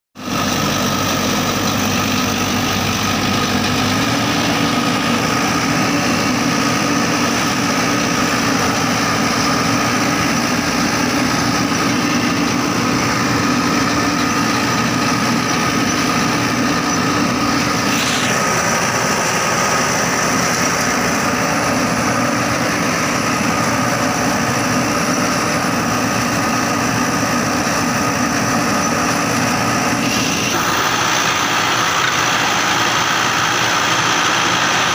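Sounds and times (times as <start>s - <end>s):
combine harvester running: 0.2s - 34.9s.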